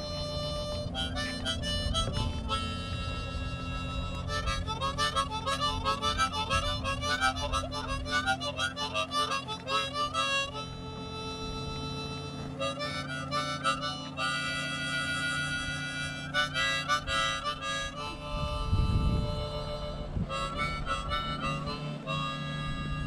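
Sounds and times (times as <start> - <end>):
harmonica playing a tune: 0.0 - 23.0.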